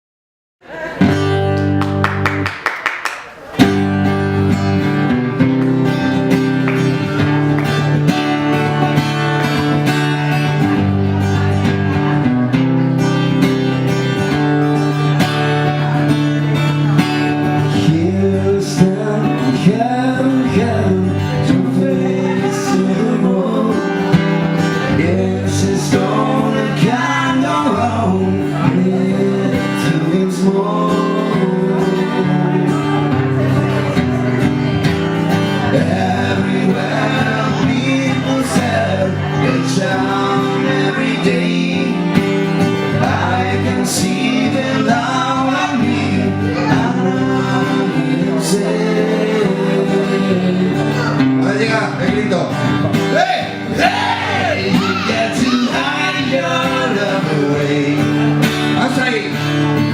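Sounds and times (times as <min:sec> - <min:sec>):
strummed acoustic guitar: 0:00.7 - 0:02.6, 0:03.4 - 0:59.9.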